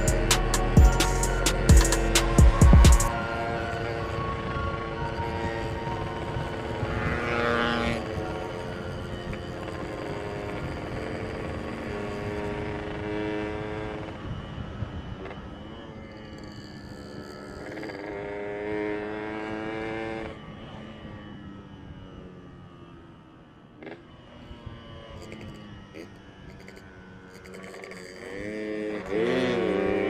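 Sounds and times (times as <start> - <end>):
motorcycle engine running: 0.0 - 21.4, 23.7 - 30.0
road and wind noise: 0.0 - 30.0.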